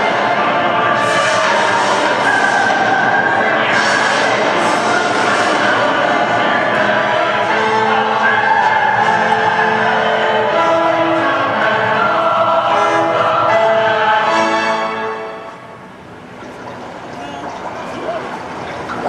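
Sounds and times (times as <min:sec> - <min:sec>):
choir singing held chords: 0:00.0 - 0:16.1.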